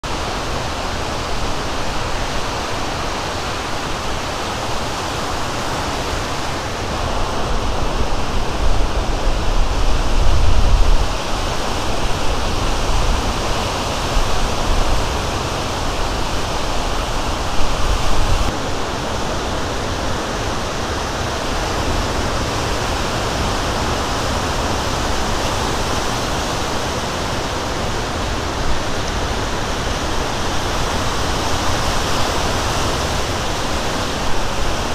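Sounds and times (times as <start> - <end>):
low surf rumbles: 0.0 - 34.9
waves breaking and washing in: 0.0 - 34.9.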